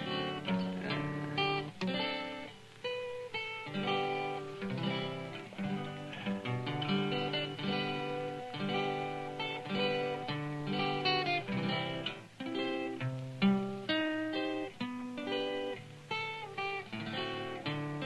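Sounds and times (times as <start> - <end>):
solo guitar playing: 0.0 - 18.0.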